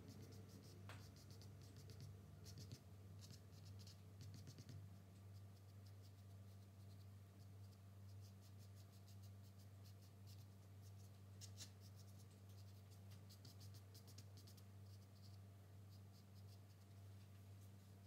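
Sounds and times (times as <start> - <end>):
charcoal scratching on paper: 0.0 - 4.8, 5.4 - 16.9
low electrical hum: 0.0 - 18.0.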